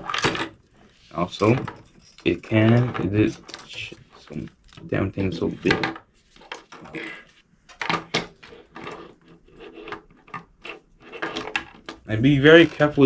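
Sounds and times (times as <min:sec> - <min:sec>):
plastic parts clicking: 0:00.0 - 0:07.0, 0:07.7 - 0:13.0.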